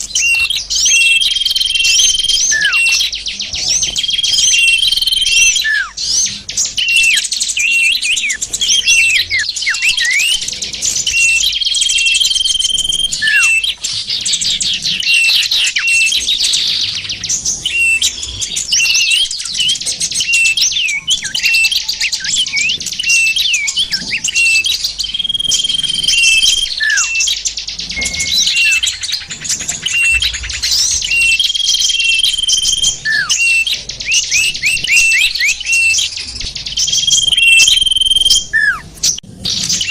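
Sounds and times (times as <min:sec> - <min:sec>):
held bird whistle: 0:00.0 - 0:39.9
songbirds chirping: 0:00.0 - 0:39.9.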